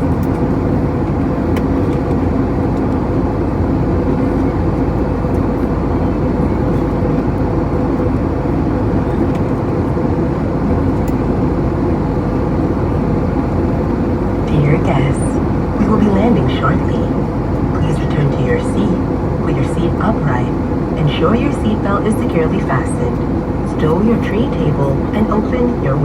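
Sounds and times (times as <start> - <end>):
jet engines and airflow rushing: 0.0 - 26.0
low steady hum: 0.0 - 26.0.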